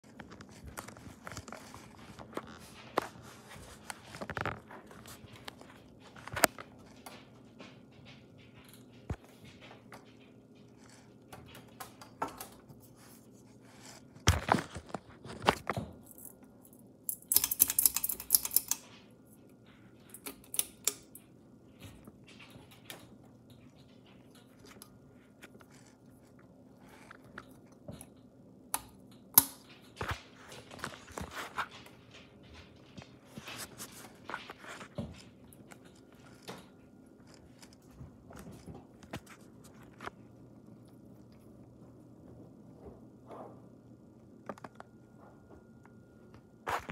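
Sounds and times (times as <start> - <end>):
faint hum: 0.0 - 46.9.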